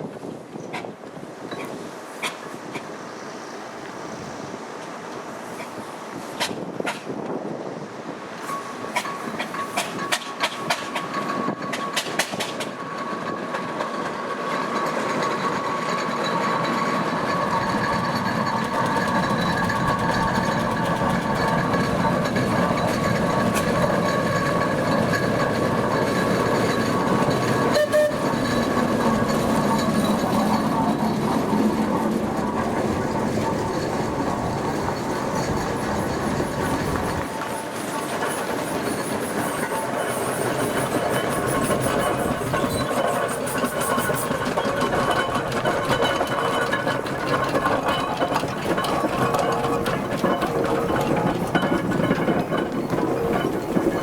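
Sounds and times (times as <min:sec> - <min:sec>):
steam traction engine chuffing: 0:08.4 - 0:54.0.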